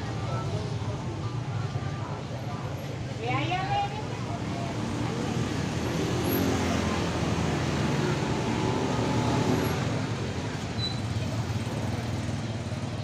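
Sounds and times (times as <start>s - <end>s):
faint voices: 0.0s - 13.0s
traffic engine hum: 0.0s - 13.0s.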